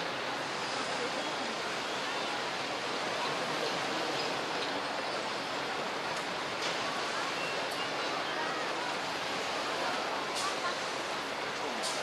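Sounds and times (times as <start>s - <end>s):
murmur of large crowd: 0.0s - 12.0s.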